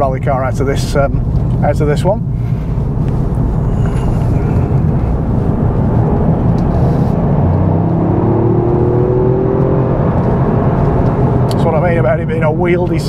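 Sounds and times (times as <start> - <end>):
road noise: 0.0 - 13.0
car engine accelerating: 2.5 - 13.0.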